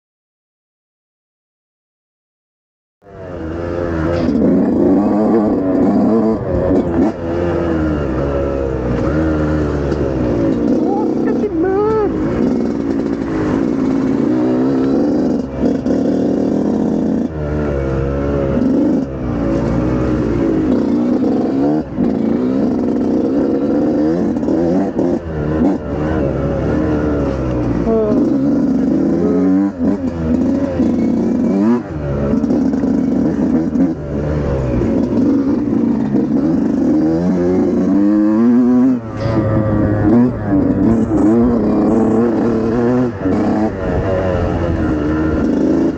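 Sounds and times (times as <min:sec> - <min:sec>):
dirt bike engine revving: 0:03.0 - 0:45.9.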